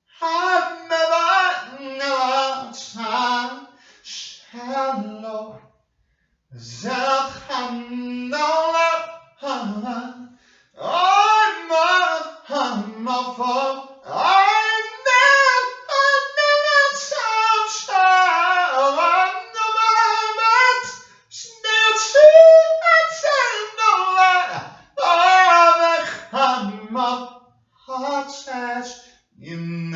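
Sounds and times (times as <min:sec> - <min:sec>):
high voice singing unaccompanied: 0:00.2 - 0:05.6, 0:06.6 - 0:10.2, 0:10.8 - 0:27.2, 0:27.9 - 0:29.9.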